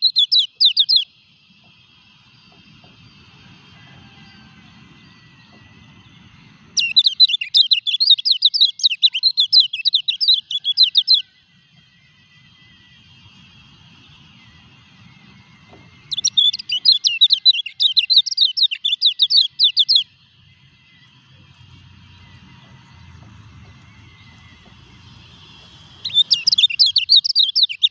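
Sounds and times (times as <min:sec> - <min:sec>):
bird rapid high chattering song: 0:00.0 - 0:01.4, 0:04.8 - 0:11.4, 0:12.0 - 0:27.9.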